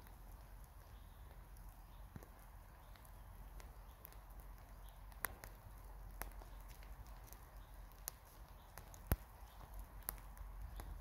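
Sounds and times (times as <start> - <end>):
twigs cracking: 0.0 - 11.0.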